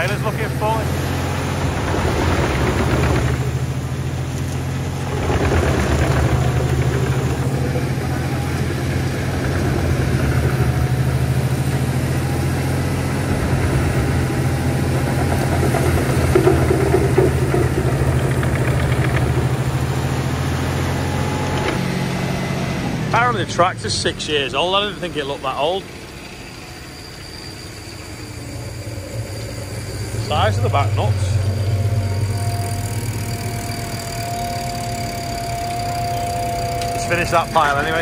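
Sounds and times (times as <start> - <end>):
tractor engine running: 0.0 - 38.0
wood chipper running: 0.0 - 38.0.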